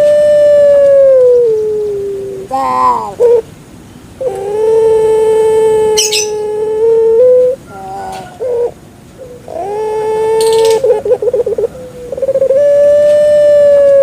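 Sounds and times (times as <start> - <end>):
dove cooing: 0.0 - 3.5, 4.2 - 14.0.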